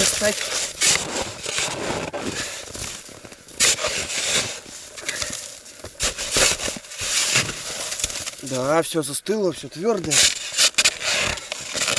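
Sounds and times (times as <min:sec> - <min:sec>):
crunching frozen snow and firewood: 0:00.0 - 0:11.9.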